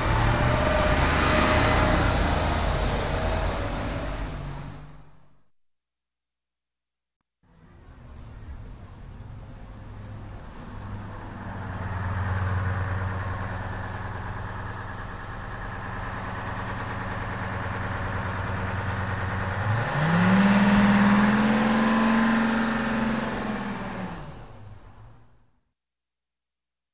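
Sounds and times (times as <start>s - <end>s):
bus engine: 0.0s - 5.4s, 7.5s - 25.5s.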